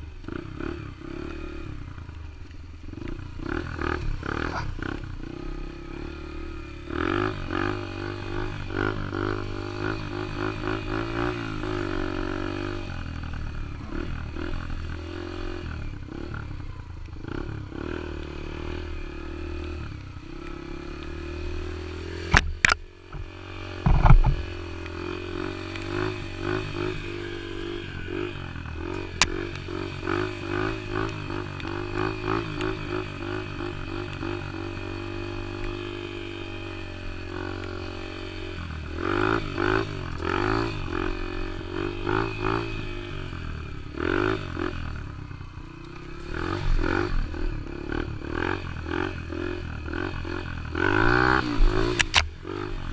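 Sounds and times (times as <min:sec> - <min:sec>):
dirt bike engine revving: 0:00.0 - 0:02.0, 0:02.9 - 0:52.9.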